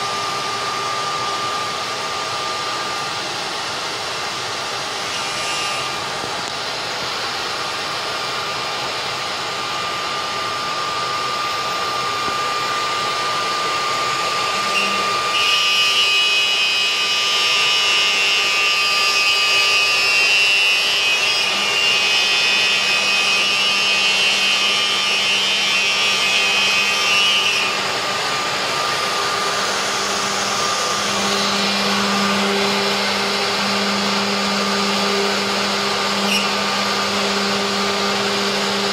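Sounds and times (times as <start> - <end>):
cnc router whirring with thin whine: 0.0 - 38.9.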